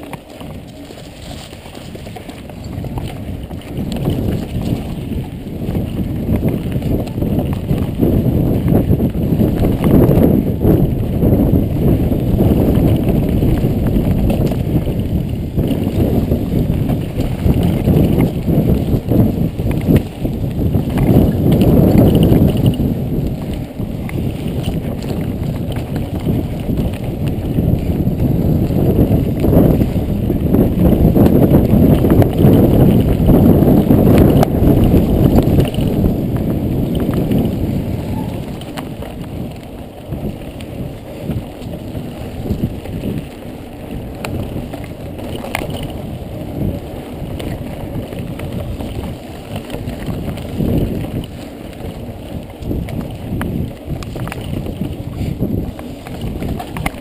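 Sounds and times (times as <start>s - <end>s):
bike clicks and rattles: 0.0s - 57.0s
wind and tyre rumble: 0.0s - 57.0s.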